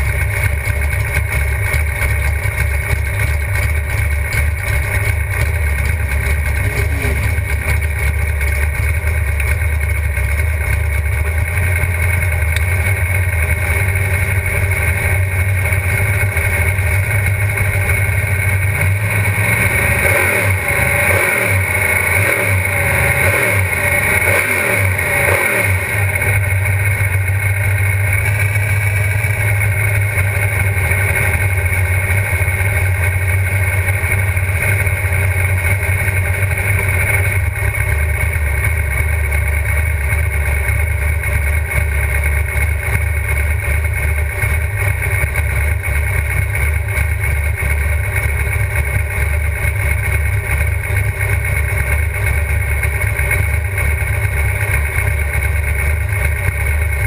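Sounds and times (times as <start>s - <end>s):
car engine idling choppily: 0.0s - 57.0s.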